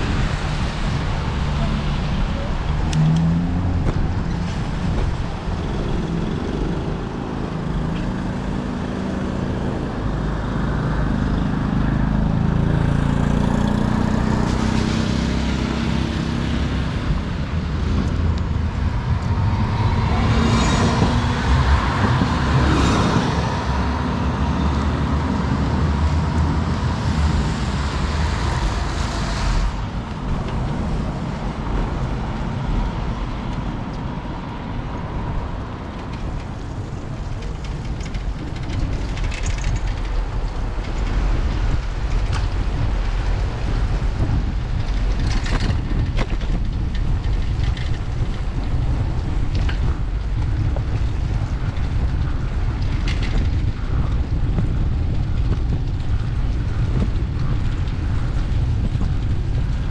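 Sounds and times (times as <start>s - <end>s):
traffic: 0.0s - 59.9s
wind rumble on microphone: 0.0s - 59.9s.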